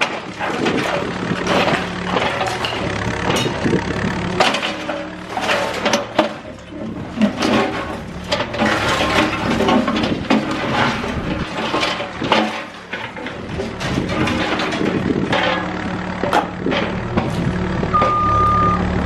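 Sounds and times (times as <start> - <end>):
concrete and steel cracking: 0.0 - 17.6
diesel engine running: 0.0 - 19.0.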